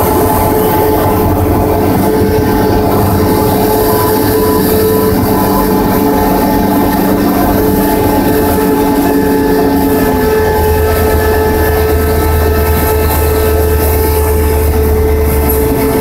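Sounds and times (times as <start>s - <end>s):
plane engine and propeller droning: 0.0s - 16.0s.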